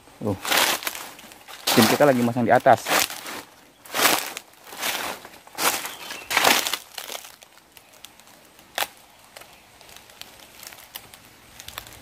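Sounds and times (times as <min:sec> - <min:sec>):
dry leaves rustling and crunching: 0:00.2 - 0:12.0.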